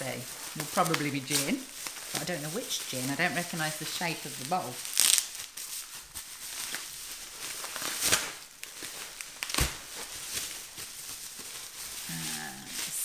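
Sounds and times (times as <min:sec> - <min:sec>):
bubble wrap crinkling: 0:00.0 - 0:13.0
sharp crackles: 0:00.0 - 0:13.0.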